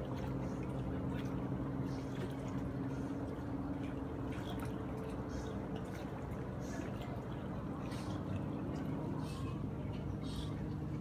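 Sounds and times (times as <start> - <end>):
steady low hum: 0.0 - 11.0
water lapping at shore: 0.0 - 11.0.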